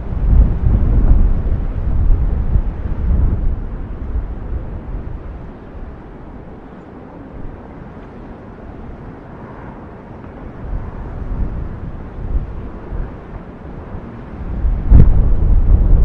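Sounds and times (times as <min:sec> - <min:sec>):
volcano rumbling: 0:00.0 - 0:16.0.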